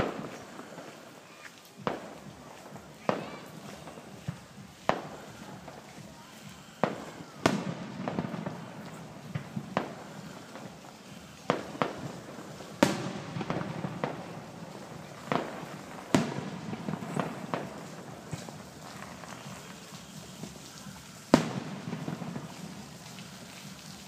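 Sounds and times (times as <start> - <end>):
firework bangs with rumbling echo: 0.0 - 1.1, 1.8 - 24.0.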